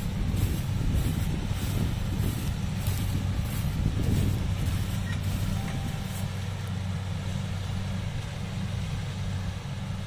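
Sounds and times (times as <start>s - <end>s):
combine harvester engine droning: 0.0s - 10.0s.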